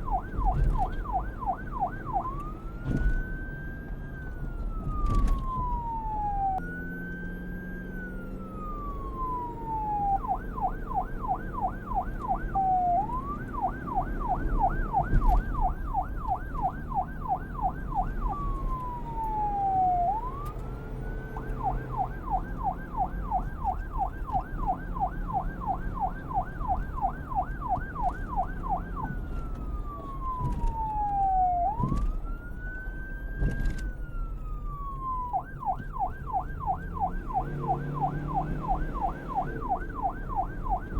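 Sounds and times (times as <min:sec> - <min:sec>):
police siren wailing and yelping: 0:00.0 - 0:40.9.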